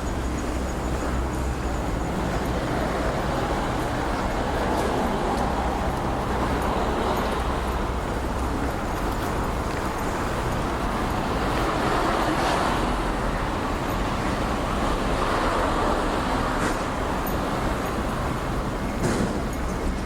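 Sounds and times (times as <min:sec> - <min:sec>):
cars passing by: 0:00.0 - 0:20.0
road traffic hum: 0:00.0 - 0:20.0.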